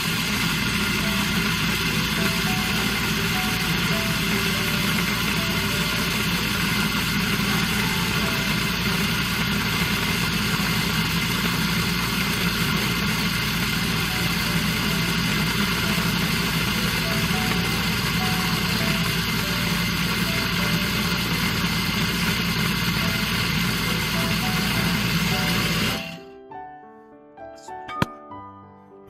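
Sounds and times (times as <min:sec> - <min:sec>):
electric grinder whirring: 0:00.0 - 0:26.3.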